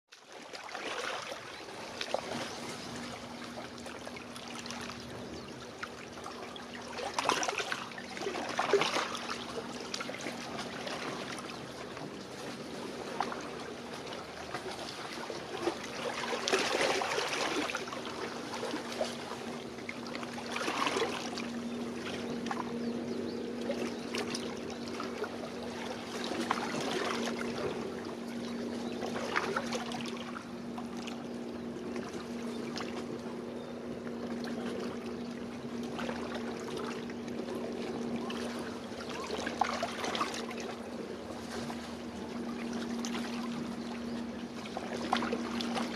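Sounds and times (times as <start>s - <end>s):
small waves lapping on beach: 0.1s - 45.9s
boat engine drone: 0.2s - 45.9s.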